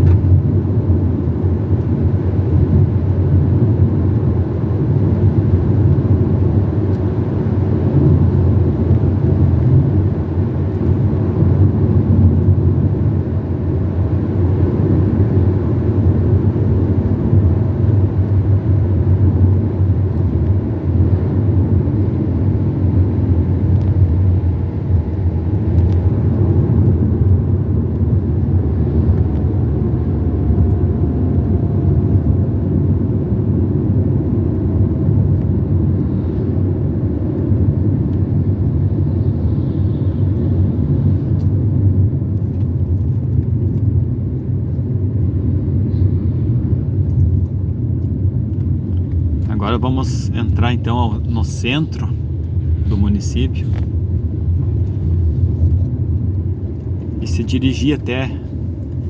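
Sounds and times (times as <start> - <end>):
car interior road and engine rumble: 0.0 - 59.0.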